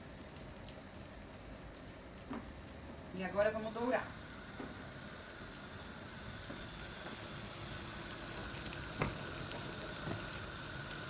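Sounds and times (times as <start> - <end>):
almonds sizzling in a pan: 0.0 - 11.0.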